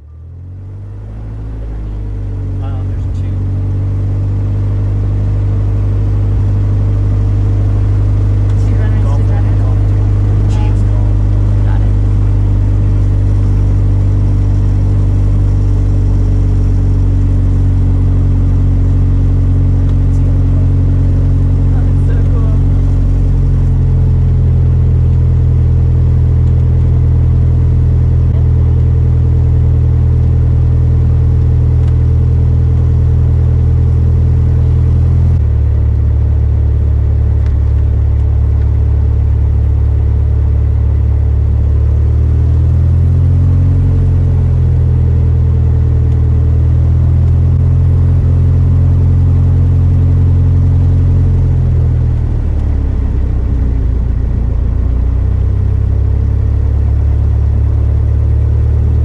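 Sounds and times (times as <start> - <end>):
propeller airplane engine running: 0.0 - 59.0.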